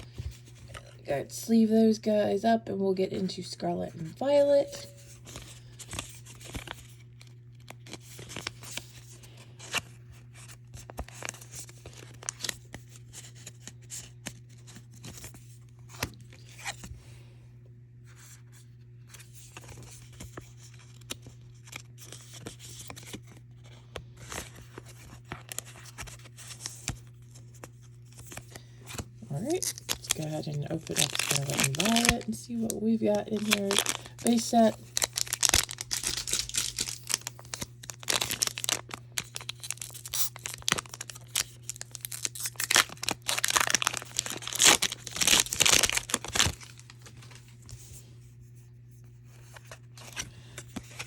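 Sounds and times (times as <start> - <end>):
cards rustling in plastic sleeves: 0.0 - 1.9, 2.9 - 17.2, 18.0 - 51.0
steady low hum: 0.0 - 51.0.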